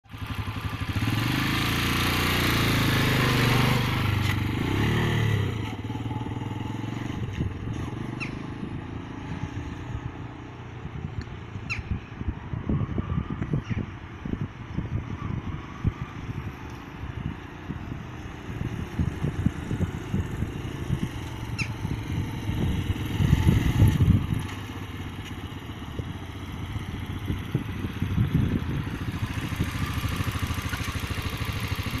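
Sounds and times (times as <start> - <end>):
motorcycle engine running: 0.0 - 11.2, 14.9 - 32.0.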